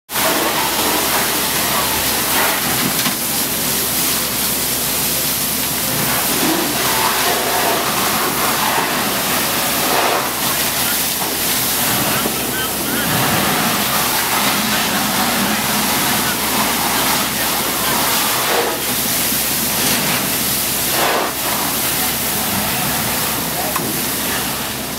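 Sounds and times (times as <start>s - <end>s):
steam hissing: 0.1s - 24.9s
water spray rushing: 0.1s - 24.9s.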